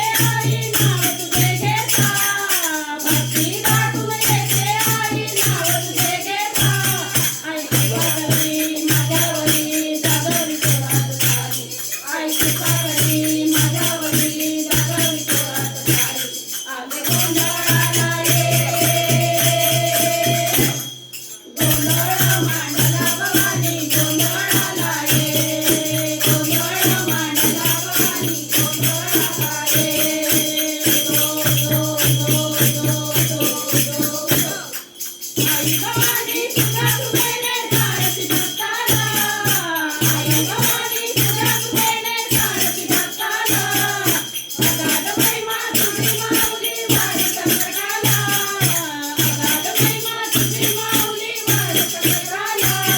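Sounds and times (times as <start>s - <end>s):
jingling percussion: 0.0s - 52.9s
voices singing devotional song: 0.0s - 52.9s.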